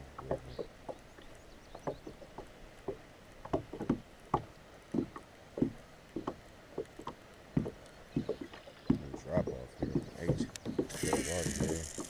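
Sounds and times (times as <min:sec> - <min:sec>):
faint water wash: 0:00.0 - 0:12.0
water slapping kayak hull: 0:00.0 - 0:12.0.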